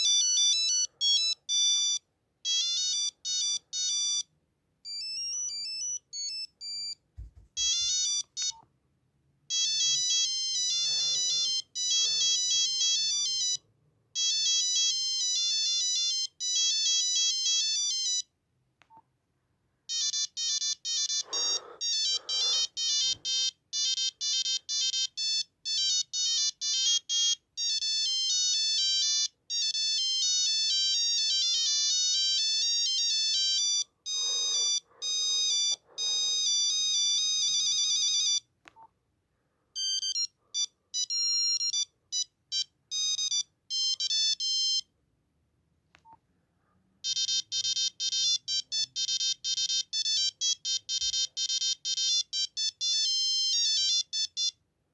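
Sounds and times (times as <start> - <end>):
monophonic phone ringtones: 0.0 - 4.3, 4.9 - 7.0, 7.6 - 8.6, 9.5 - 13.6, 14.2 - 18.3, 19.9 - 38.5, 39.8 - 44.9, 47.0 - 54.6.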